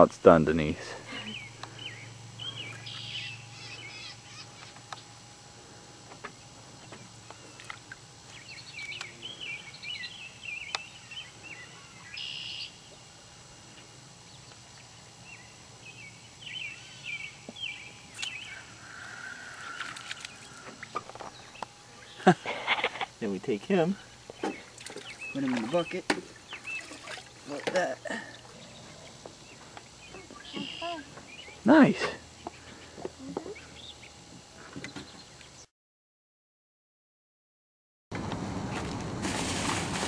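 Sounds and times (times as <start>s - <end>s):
songbirds singing and chirping: 0.6s - 5.3s, 6.2s - 13.0s, 13.6s - 35.7s.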